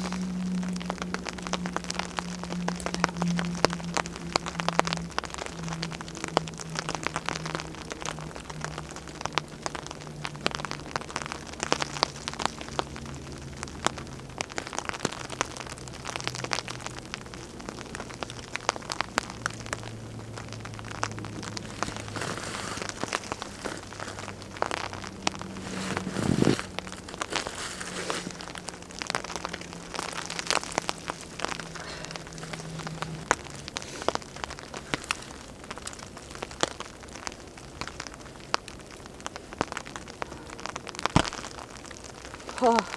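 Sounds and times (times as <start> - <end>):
rain pattering on a tarp: 0.0 - 42.9
wet wood fire crackling: 0.0 - 42.9.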